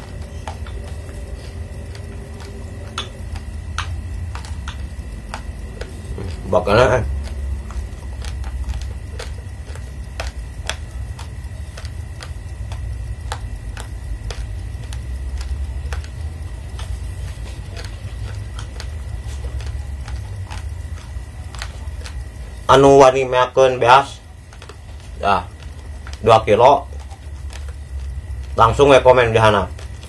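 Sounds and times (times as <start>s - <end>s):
chewing crunchy grains: 0.0s - 30.0s
steady low hum: 0.0s - 30.0s.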